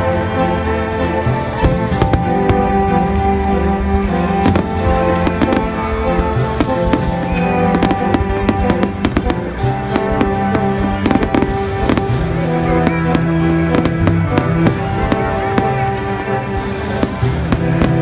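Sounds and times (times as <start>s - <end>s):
loud music with held notes: 0.0s - 18.0s
fireworks bursting and crackling: 1.2s - 18.0s.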